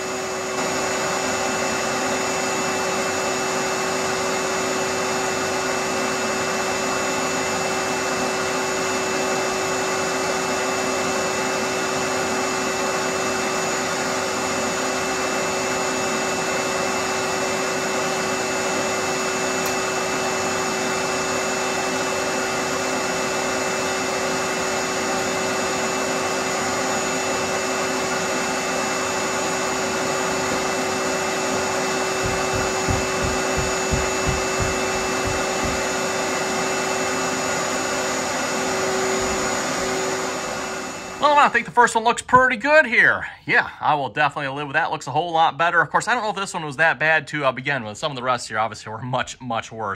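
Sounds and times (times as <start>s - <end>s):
electric fan motor running: 0.0s - 41.4s.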